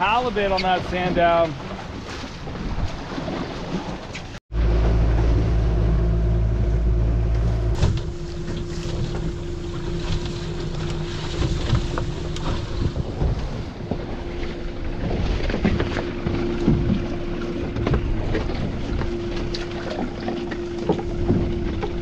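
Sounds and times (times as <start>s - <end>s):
water slapping a hull: 0.0s - 22.0s
outboard motor running: 0.5s - 22.0s.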